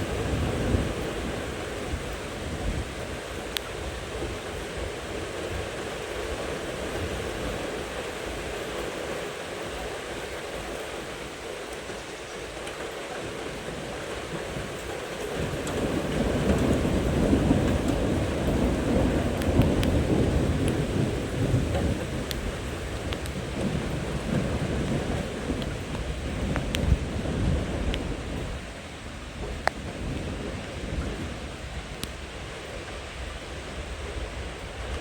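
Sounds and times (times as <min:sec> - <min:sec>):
rolling thunder rumble: 0:00.0 - 0:09.0, 0:12.6 - 0:35.0
steady rain: 0:00.0 - 0:35.0.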